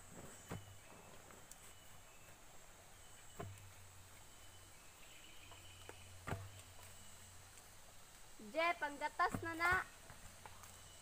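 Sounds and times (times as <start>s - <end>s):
faint high hiss: 0.0s - 11.0s.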